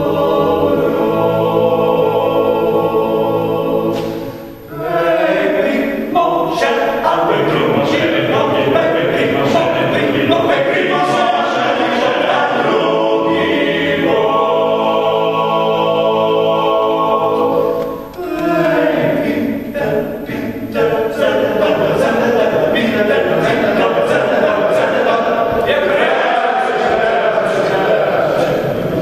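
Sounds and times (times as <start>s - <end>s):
male choir singing a cappella: 0.0s - 29.0s.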